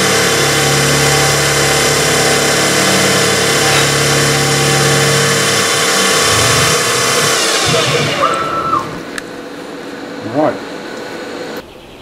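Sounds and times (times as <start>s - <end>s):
milling machine running: 0.0s - 10.2s.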